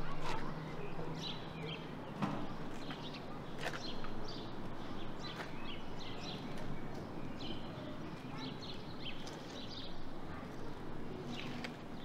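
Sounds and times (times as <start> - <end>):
birds chirping and calling: 0.0 - 12.0
steady outdoor background: 0.0 - 12.0.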